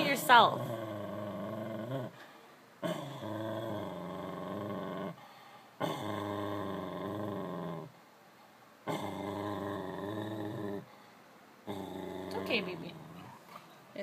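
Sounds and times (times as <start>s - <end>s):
dog growling: 0.0s - 2.2s, 2.8s - 8.0s, 8.8s - 11.0s, 11.6s - 13.7s.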